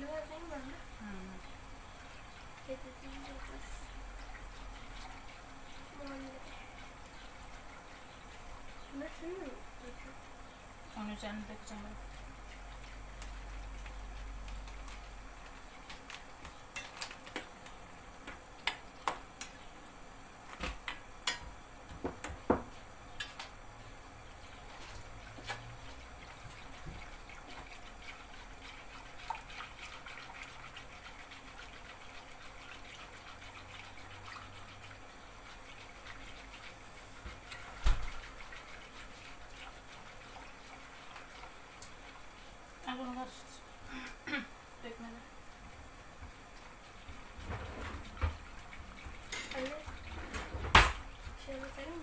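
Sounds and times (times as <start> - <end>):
whisk stirring liquid in pot: 0.0 - 19.6, 24.2 - 43.8, 45.5 - 52.0.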